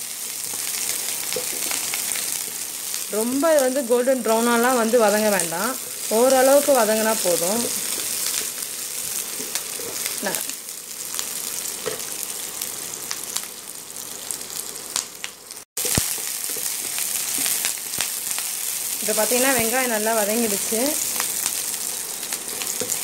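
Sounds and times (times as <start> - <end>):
shallots sizzling in hot oil: 0.0 - 23.0.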